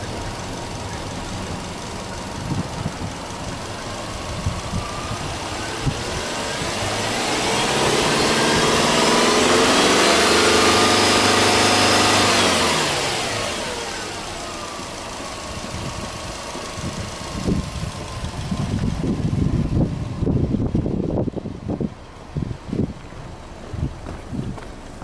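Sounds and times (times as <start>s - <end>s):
car engine revving: 0.0s - 20.6s
wind buffeting microphone: 1.5s - 11.9s, 15.3s - 25.0s.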